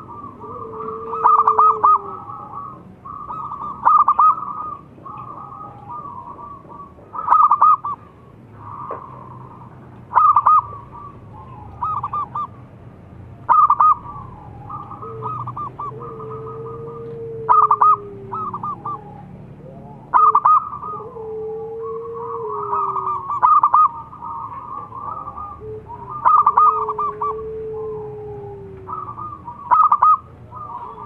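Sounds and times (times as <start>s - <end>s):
distant doves calling: 0.0s - 31.0s
doves cooing: 0.0s - 31.0s.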